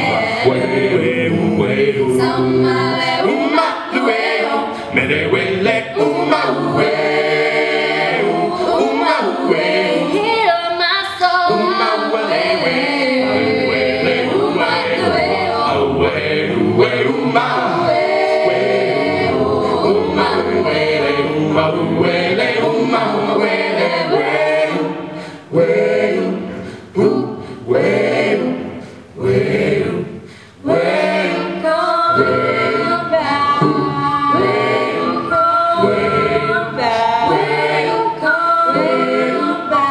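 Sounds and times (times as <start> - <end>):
children's choir singing a cappella: 0.0 - 39.9.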